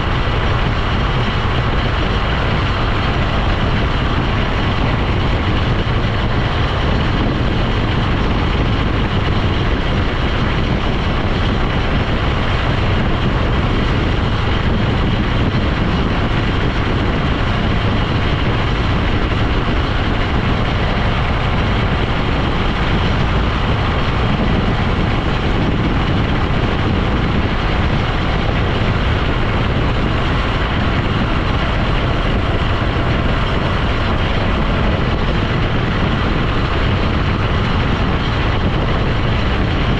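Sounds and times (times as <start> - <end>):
road and wind noise: 0.0 - 39.9
vehicle engine: 0.0 - 39.9.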